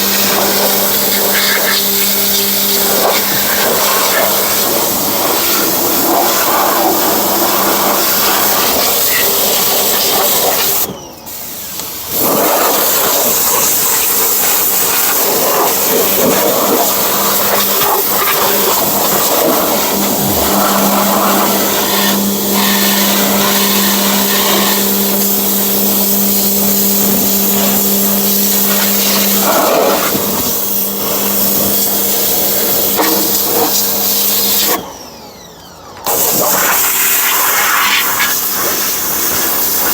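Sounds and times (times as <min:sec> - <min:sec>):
pressure washer water jet hissing: 0:00.0 - 0:35.4, 0:36.0 - 0:39.9
motor hum: 0:00.0 - 0:36.8.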